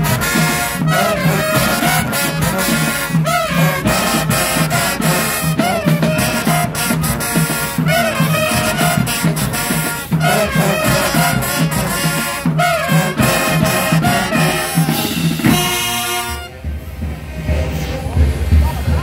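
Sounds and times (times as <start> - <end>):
marching band brass: 0.0 - 19.0
steady drum beat: 0.0 - 19.0.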